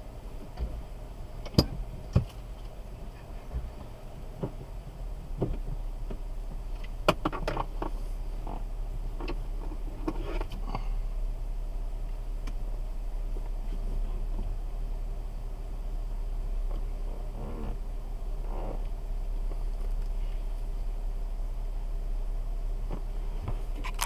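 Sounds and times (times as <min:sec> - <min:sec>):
car engine humming: 0:00.0 - 0:24.0.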